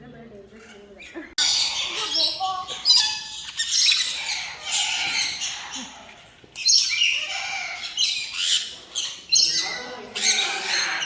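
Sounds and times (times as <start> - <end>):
parrots squawking: 0.6 - 11.0.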